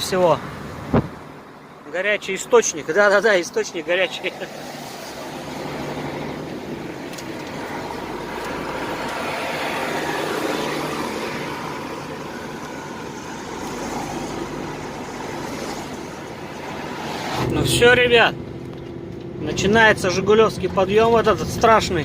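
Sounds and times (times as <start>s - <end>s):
road and tyre noise: 0.0s - 22.0s
truck engine hum: 0.0s - 22.0s.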